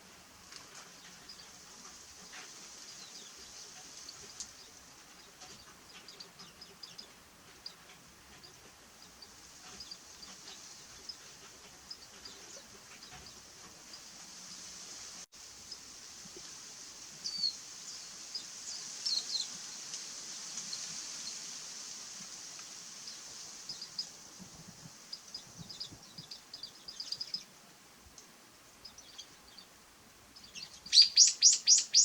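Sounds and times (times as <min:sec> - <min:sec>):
faint steady hiss: 0:00.0 - 0:32.0
songbirds chirping: 0:00.0 - 0:32.0.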